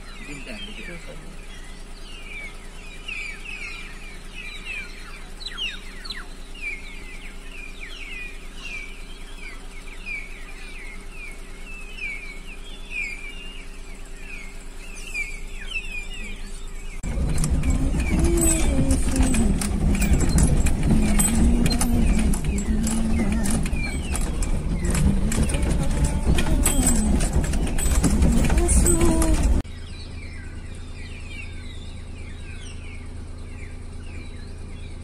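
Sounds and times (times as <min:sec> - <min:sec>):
low steady hum: 0:00.0 - 0:35.0
small birds chirping: 0:00.0 - 0:35.0.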